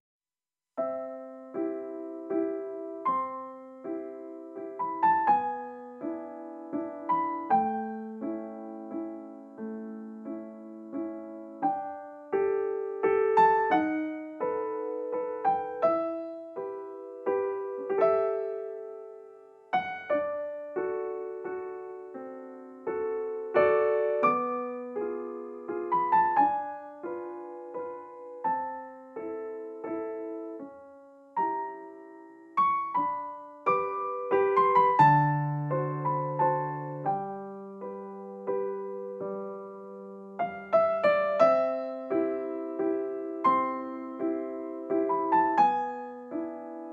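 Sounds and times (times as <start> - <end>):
slow solo piano melody: 0.8 - 46.9.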